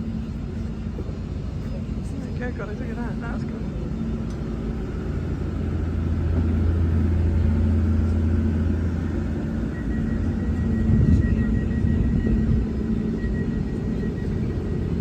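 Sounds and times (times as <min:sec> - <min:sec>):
faint high whine: 0:00.0 - 0:15.0
train engine idling: 0:00.0 - 0:15.0.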